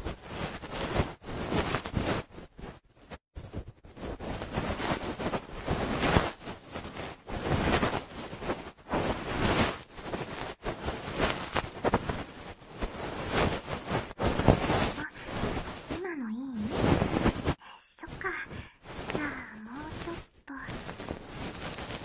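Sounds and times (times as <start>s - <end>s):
soft brush rustling over microphone: 0.0s - 22.0s.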